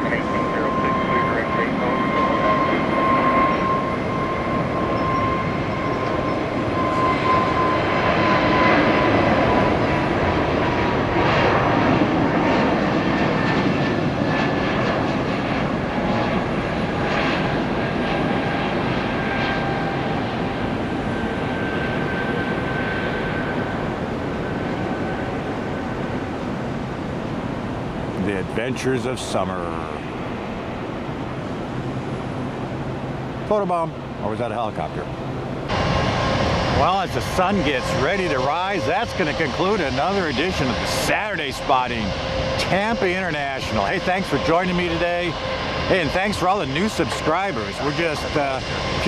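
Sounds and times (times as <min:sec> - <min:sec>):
jet engines roaring at takeoff: 0:00.0 - 0:49.0.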